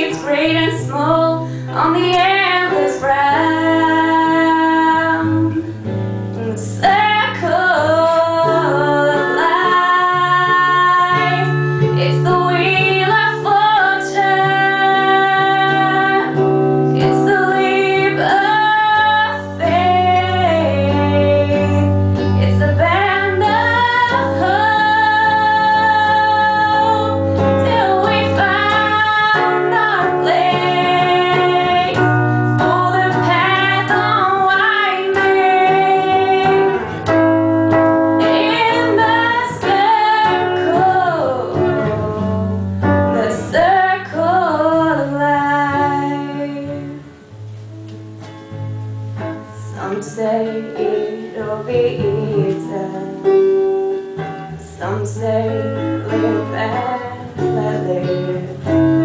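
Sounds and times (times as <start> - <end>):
woman singing: 0.0 - 47.3, 49.2 - 59.0
electric guitar: 0.0 - 59.0.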